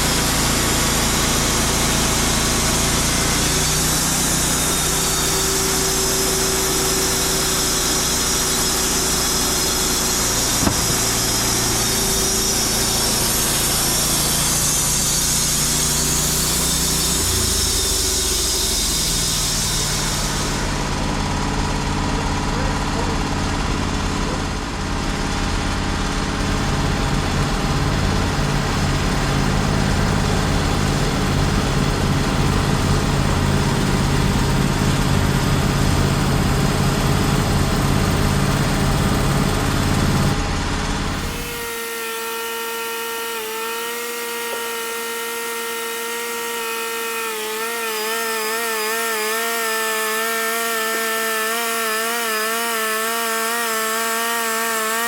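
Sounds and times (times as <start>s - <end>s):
saw blade whine: 0.0s - 55.0s
sawmill engine rumble: 0.0s - 55.0s.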